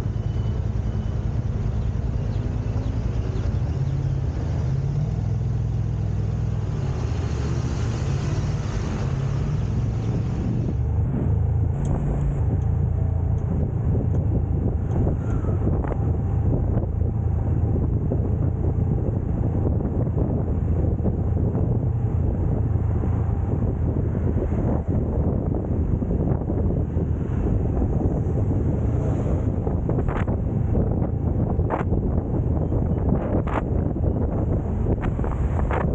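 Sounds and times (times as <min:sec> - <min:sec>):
car engine rumble: 0:00.0 - 0:35.9
tyre road noise: 0:00.0 - 0:35.9.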